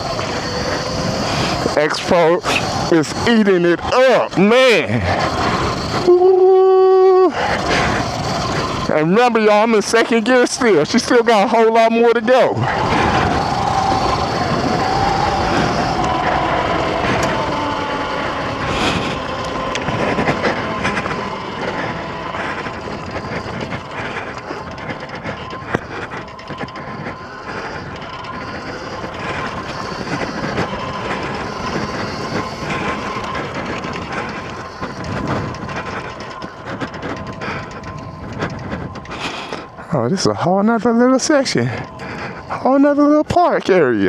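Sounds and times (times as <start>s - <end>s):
bike rattling over bumps: 0.0s - 44.0s
dirt bike engine running: 0.0s - 44.0s
wind noise: 0.0s - 44.0s.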